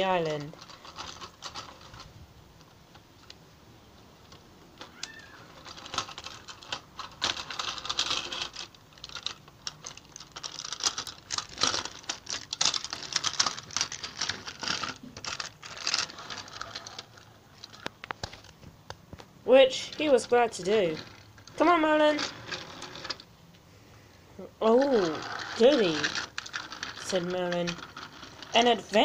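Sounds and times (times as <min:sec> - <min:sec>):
plastic toy trains clattering: 0:00.0 - 0:02.1, 0:04.2 - 0:18.6, 0:19.6 - 0:23.3, 0:24.6 - 0:29.0.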